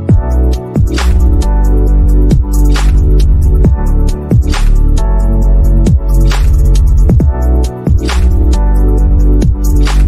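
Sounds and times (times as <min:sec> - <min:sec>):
music with deep bass and drums: 0:00.0 - 0:10.0.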